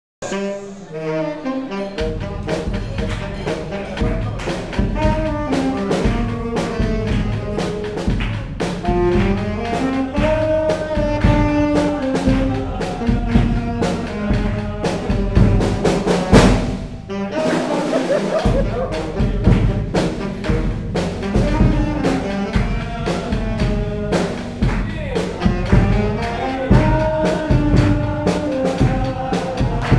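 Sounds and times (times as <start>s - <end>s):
brass band playing dance tune: 0.2s - 29.9s
saxophone melody: 0.2s - 29.9s
drums and bass beat: 2.0s - 29.9s.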